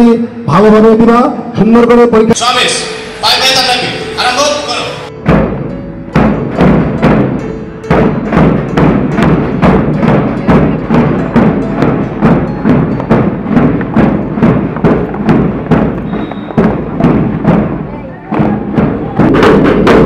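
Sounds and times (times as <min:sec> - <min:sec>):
drum beating marching rhythm: 0:02.4 - 0:20.0.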